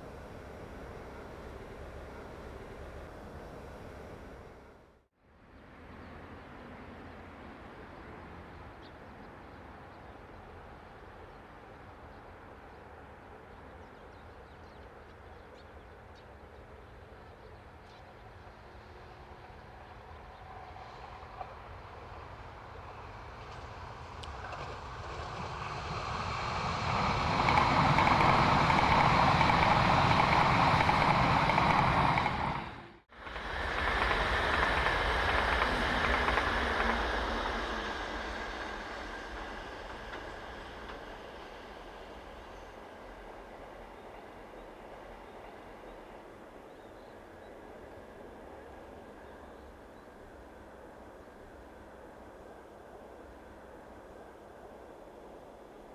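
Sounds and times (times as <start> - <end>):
train passing on rails: 0.0 - 55.9.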